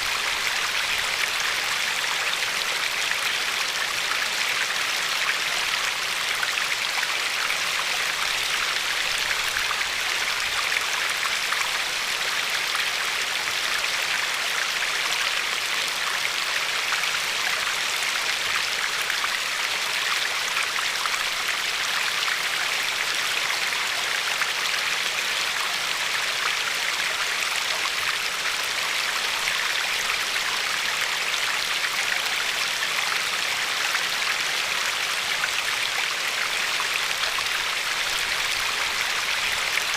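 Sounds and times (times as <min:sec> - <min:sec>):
river water flowing over pebbles: 0:00.0 - 0:39.9.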